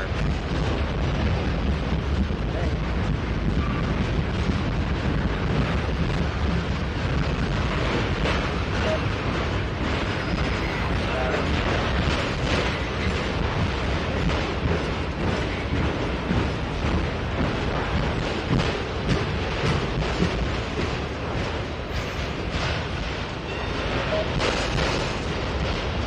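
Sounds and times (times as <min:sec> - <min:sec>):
freight train rolling past: 0:00.0 - 0:26.0
steel wheels clattering on rails: 0:00.0 - 0:26.0.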